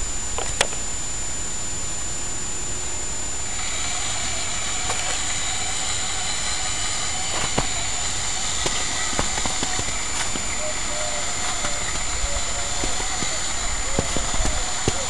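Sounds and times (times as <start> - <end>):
electric motor whine: 0.0 - 15.0
sharp clicks: 0.3 - 1.0, 3.5 - 15.0
model engine sound effect: 2.6 - 15.0.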